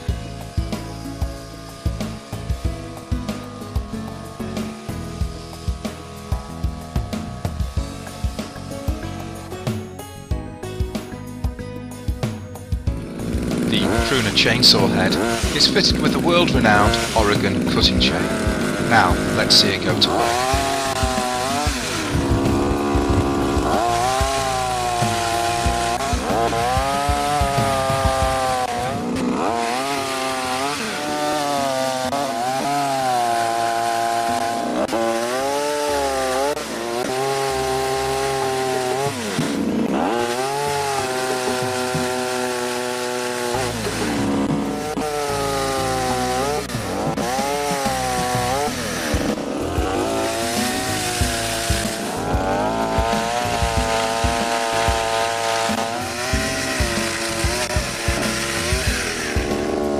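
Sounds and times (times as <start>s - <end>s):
pole pruner chainsaw cutting: 0.0s - 59.9s.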